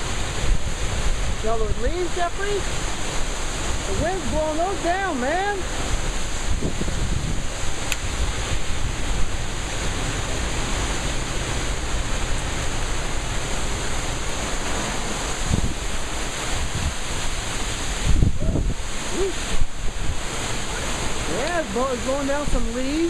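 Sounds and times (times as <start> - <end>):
strong wind rushing through trees: 0.0 - 23.0
wind buffeting microphone: 0.0 - 23.0.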